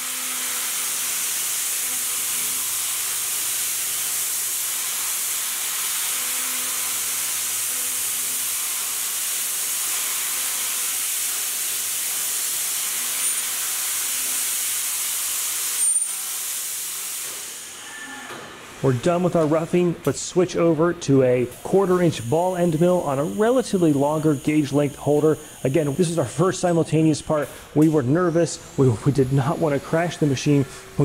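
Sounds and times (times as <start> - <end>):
milling machine hiss: 0.0 - 31.0.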